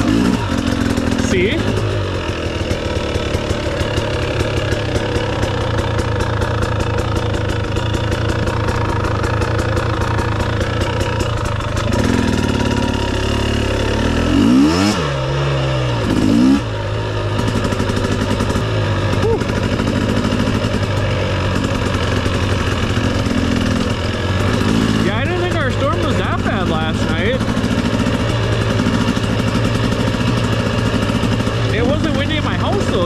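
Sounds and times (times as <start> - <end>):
dirt bike engine idling: 0.0 - 33.0
dirt bike engine revving: 0.0 - 33.0.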